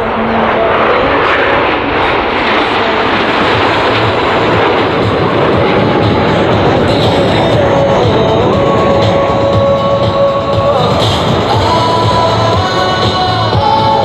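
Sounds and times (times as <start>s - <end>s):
jets flying over: 0.0s - 14.0s.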